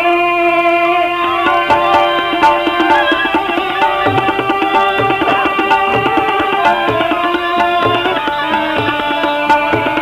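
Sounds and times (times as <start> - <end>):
melodic instrument sliding notes: 1.2 - 10.0
steady drum beat: 1.4 - 10.0.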